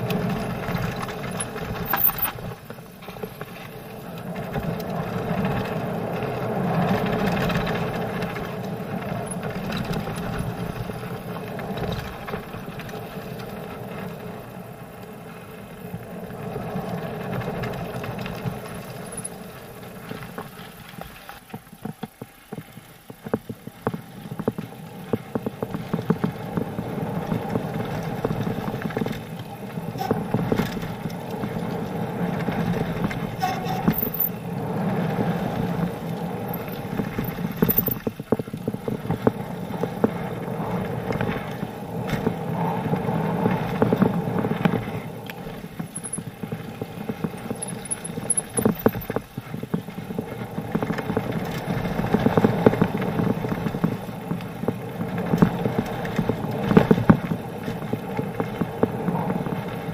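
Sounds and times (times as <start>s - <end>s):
bike rattling and knocking: 0.0s - 15.0s, 15.8s - 59.9s.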